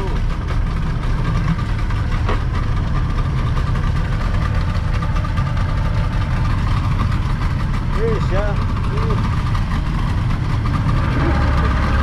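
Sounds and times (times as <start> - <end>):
outboard motors running: 0.0 - 12.0.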